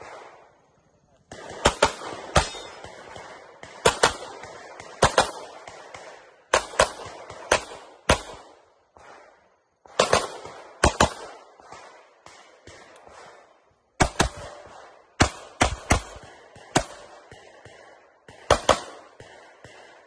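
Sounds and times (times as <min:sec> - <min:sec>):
pistol shots in quick pairs: 0:00.0 - 0:20.0.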